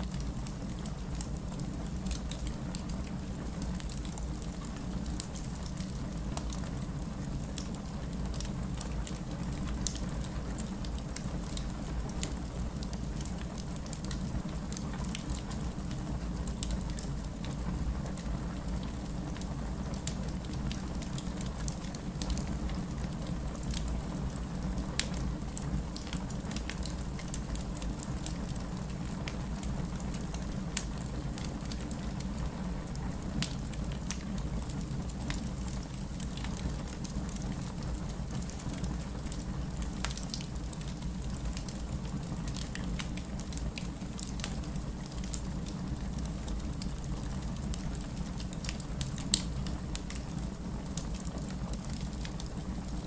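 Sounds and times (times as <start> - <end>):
low rumble of flames: 0.0 - 53.0
wood fire crackling: 0.0 - 53.0.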